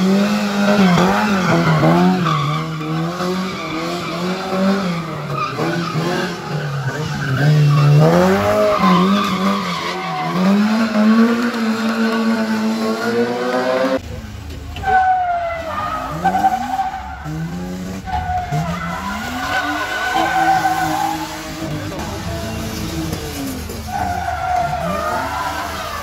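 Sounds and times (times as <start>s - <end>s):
car engine revving: 0.0s - 26.0s
tyres skidding and squealing: 0.0s - 26.0s.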